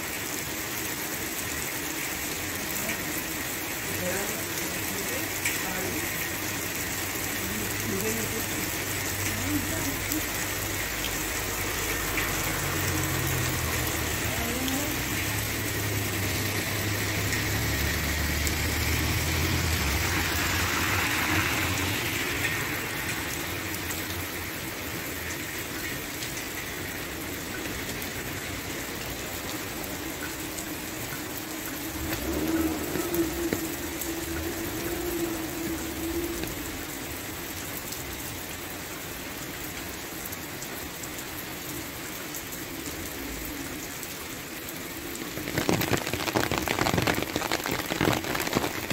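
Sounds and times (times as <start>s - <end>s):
heavy rain on pavement: 0.0s - 48.9s.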